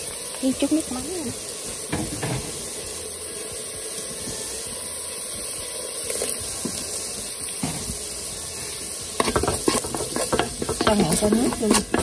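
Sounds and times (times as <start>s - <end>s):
shrimp sizzling in oil: 0.0s - 12.0s.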